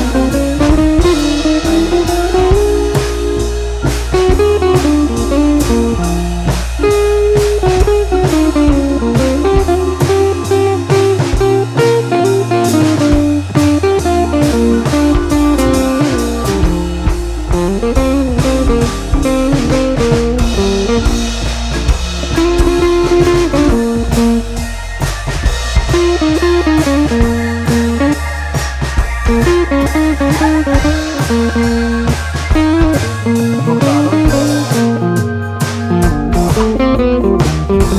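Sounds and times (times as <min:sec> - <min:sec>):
guitar melody: 0:00.0 - 0:37.9
steady drum beat: 0:00.0 - 0:37.9.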